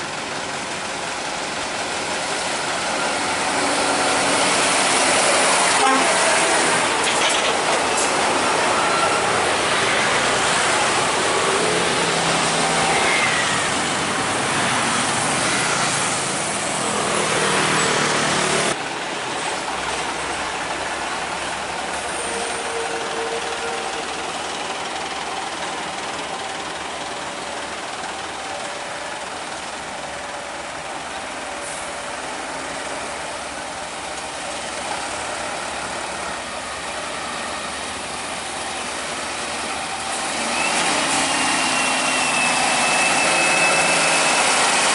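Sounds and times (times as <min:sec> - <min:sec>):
road traffic passing: 0:00.0 - 0:44.9
truck engines running: 0:00.0 - 0:44.9.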